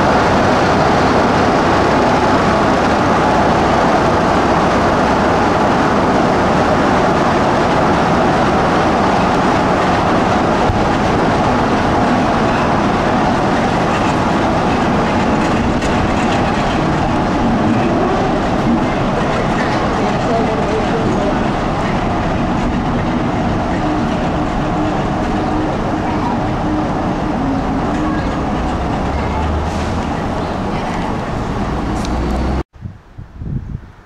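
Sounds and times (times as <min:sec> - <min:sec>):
diesel locomotive engine: 0:00.0 - 0:32.7.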